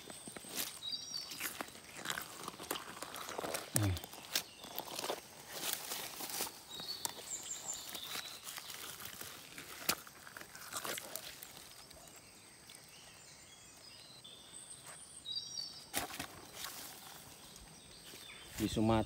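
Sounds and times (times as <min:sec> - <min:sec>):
rustling leaves and undergrowth: 0:00.0 - 0:19.0.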